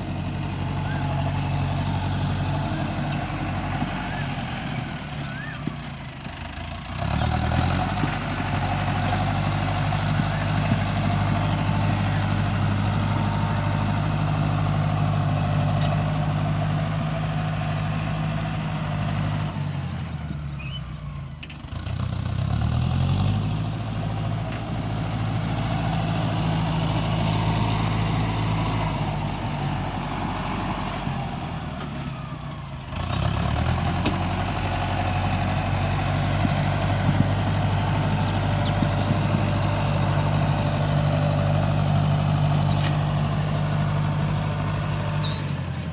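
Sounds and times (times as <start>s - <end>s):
tractor diesel engine revving: 0.0s - 45.9s.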